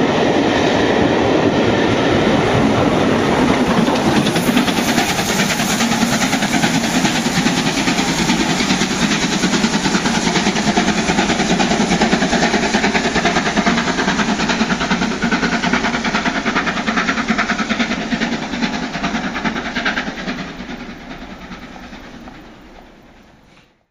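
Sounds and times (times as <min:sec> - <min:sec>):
train wheels clattering on rails: 0:00.0 - 0:23.8.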